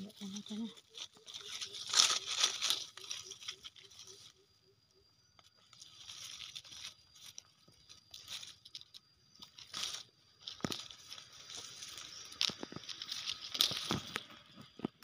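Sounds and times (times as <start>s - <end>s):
dry leaves rustling and crackling: 0.0s - 15.0s.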